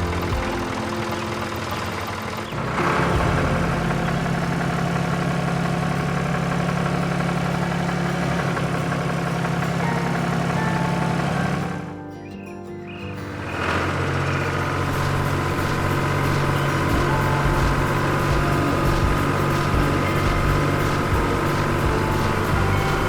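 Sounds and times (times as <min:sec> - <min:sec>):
tractor engine running: 0:00.0 - 0:11.9, 0:13.5 - 0:23.0.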